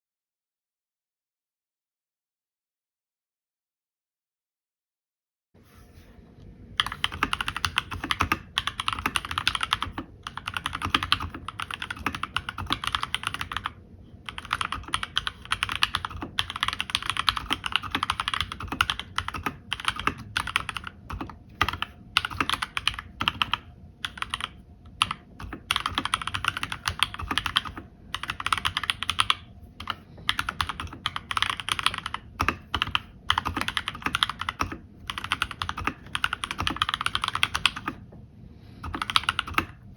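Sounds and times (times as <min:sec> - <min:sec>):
fast mechanical keyboard typing: 0:06.8 - 0:38.0, 0:38.8 - 0:39.8.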